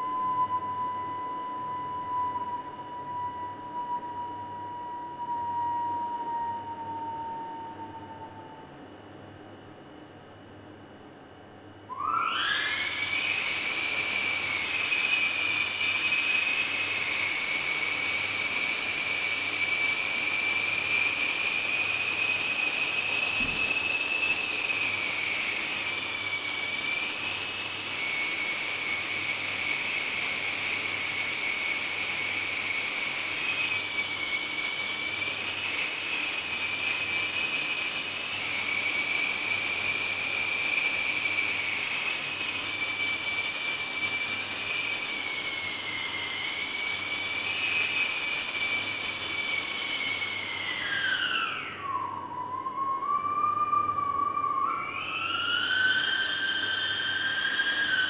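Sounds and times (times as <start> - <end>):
eerie air whistling: 0.0 - 9.6, 11.8 - 58.0.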